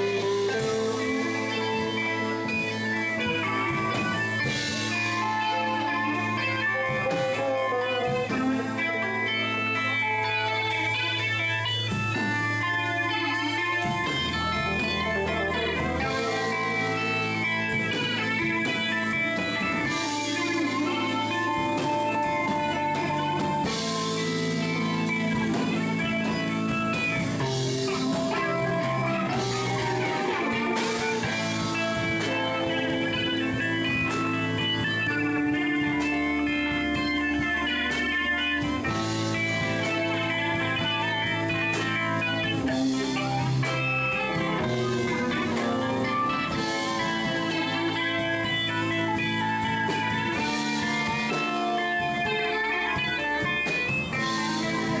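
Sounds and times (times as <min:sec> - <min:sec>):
bass guitar: 0:00.0 - 0:55.0
drums: 0:00.0 - 0:55.0
electric guitars: 0:00.0 - 0:55.0
held lead guitar notes: 0:00.0 - 0:55.0.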